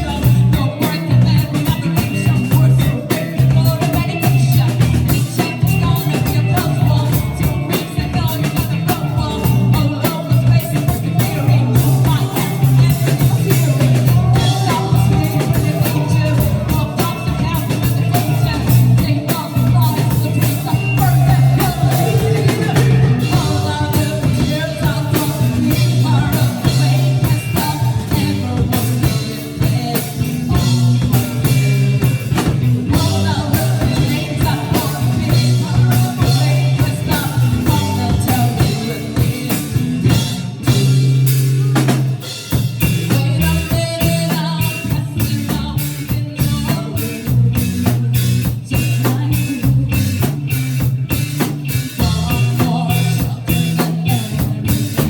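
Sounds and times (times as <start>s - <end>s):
drum kit: 0.0s - 55.0s
electric bass: 0.0s - 55.0s
electric guitar: 0.0s - 55.0s
lead singer singing: 0.0s - 55.0s.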